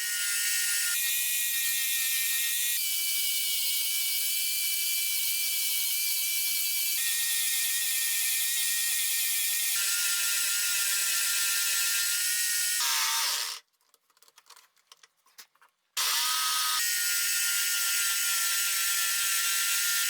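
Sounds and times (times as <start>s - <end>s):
electric jigsaw whining: 0.0s - 13.6s, 16.0s - 20.0s.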